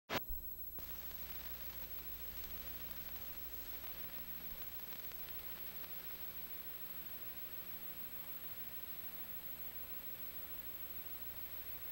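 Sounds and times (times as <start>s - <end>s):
tape hiss: 0.1s - 11.9s.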